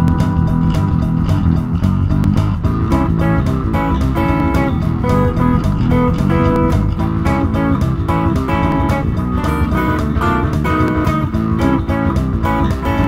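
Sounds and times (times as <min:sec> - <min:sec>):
bass line: 0:00.0 - 0:13.0
guitar instrumental music: 0:00.0 - 0:13.0.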